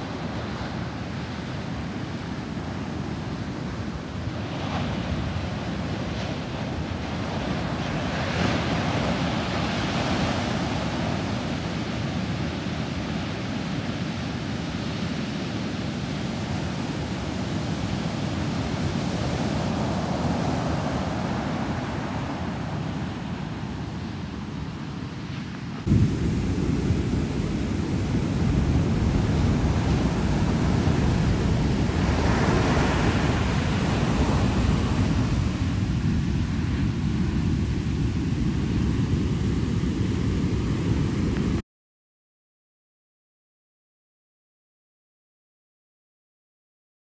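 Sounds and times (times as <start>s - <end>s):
ocean waves breaking: 0.0s - 41.6s.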